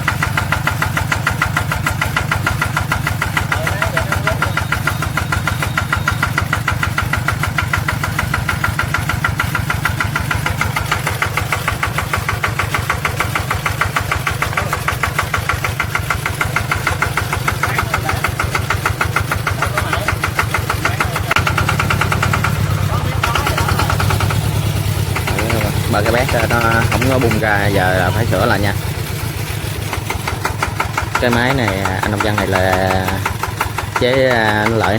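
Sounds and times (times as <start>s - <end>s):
engine pulsing steadily: 0.0s - 34.9s.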